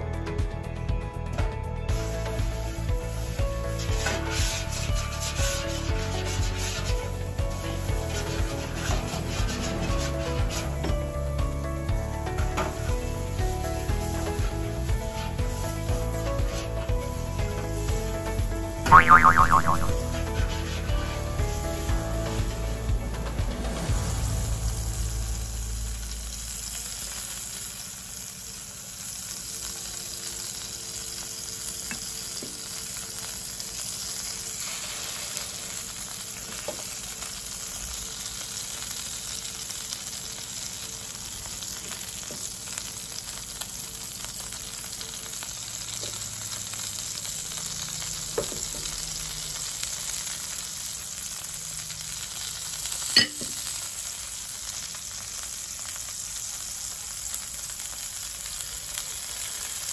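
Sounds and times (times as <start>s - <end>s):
steak sizzling in a roasting tin: 1.9s - 18.5s, 20.3s - 59.9s.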